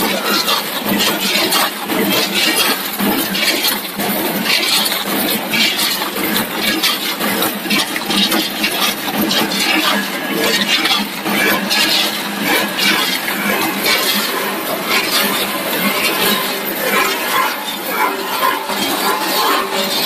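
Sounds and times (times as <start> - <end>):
packing machine clatter and hiss: 0.0 - 17.5.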